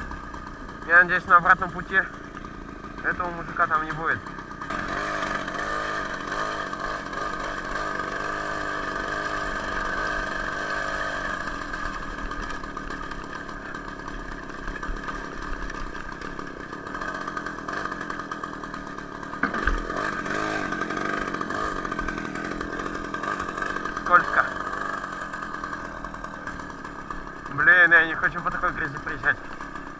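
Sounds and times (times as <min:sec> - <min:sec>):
two-stroke moped engine: 0:00.0 - 0:29.9.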